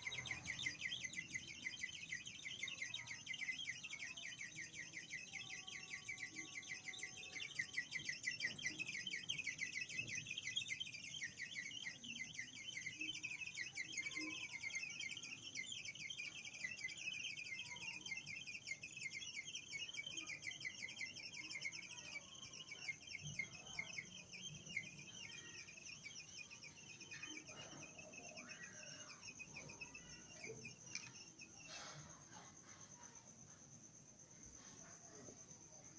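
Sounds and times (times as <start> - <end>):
steady high tone: 0.0 - 31.8
high-pitched chirping pulses: 0.0 - 32.4.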